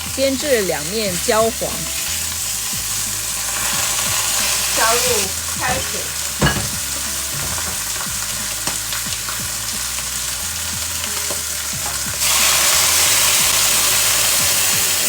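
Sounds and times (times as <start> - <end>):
fish sizzling in hot oil: 0.0 - 15.0
loud hiss of water in oil: 1.8 - 15.0.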